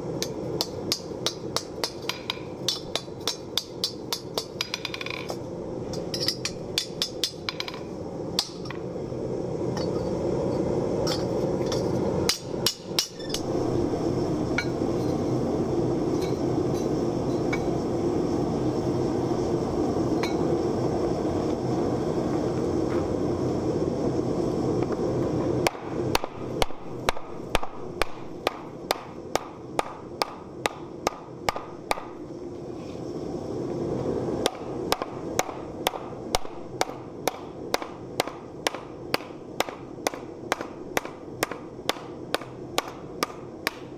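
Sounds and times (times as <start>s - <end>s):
gas forge rushing: 0.0s - 43.9s.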